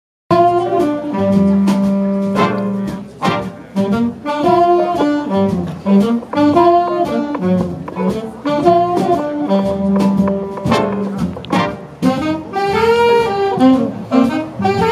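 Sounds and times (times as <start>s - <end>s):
big band jazz: 0.3s - 14.9s.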